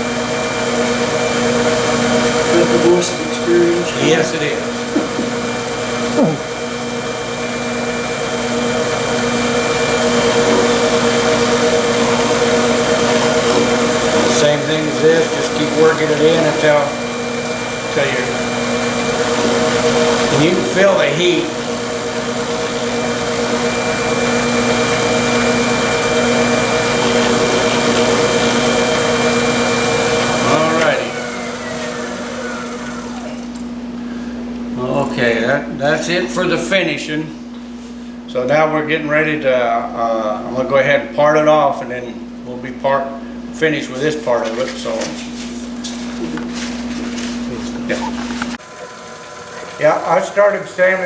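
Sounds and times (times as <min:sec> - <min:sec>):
wood lathe motor hum: 0:00.0 - 0:36.8, 0:43.8 - 0:51.0.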